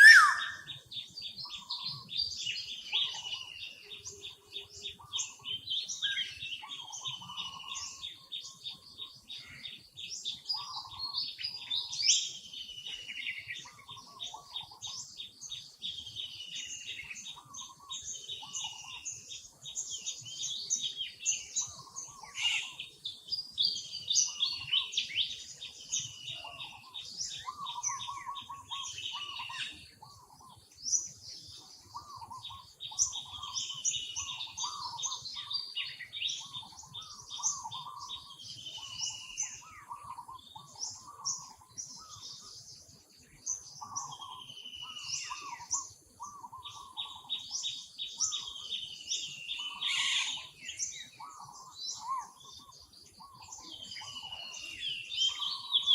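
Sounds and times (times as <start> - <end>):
birds chirping and singing: 0.0 - 55.9.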